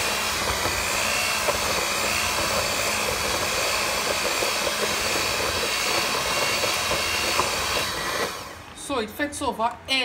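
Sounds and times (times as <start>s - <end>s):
electric stand mixer whining: 0.0s - 8.7s.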